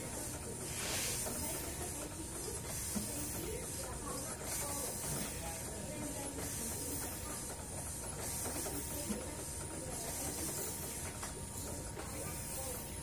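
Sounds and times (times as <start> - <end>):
hospital equipment hiss and hum: 0.0 - 13.0.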